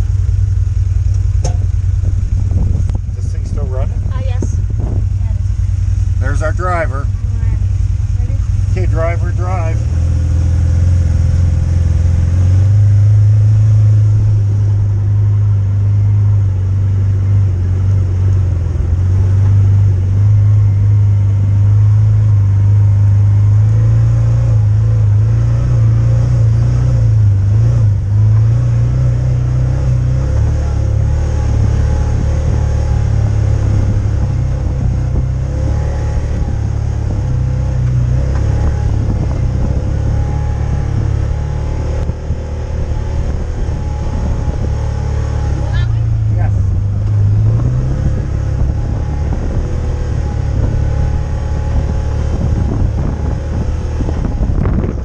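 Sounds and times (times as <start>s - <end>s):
utility vehicle engine rumbling: 0.0s - 55.0s.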